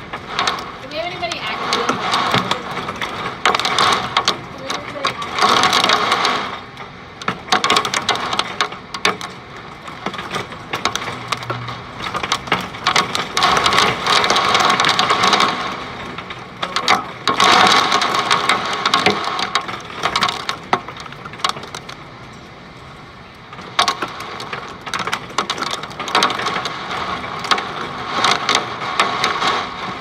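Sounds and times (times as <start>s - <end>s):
hail hitting glass windows: 0.0s - 30.0s.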